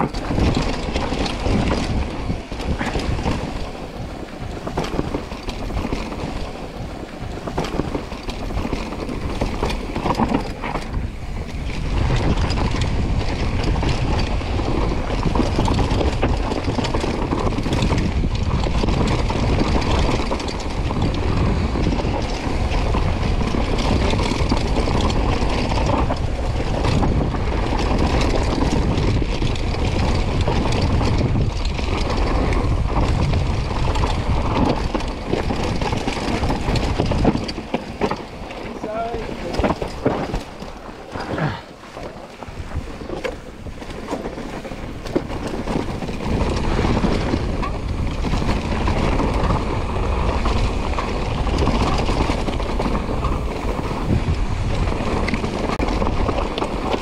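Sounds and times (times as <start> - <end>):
bike rattling and knocking: 0.0 - 57.0
bike tyres over dirt and stones: 0.0 - 57.0
wind buffeting microphone: 0.0 - 57.0.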